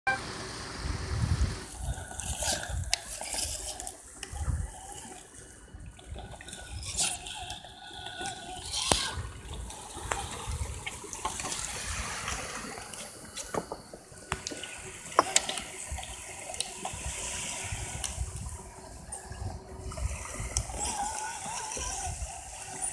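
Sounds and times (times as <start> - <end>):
wind rumbling on microphone: 0.6 - 7.4, 8.6 - 22.9
water lapping on rocks: 1.6 - 22.9.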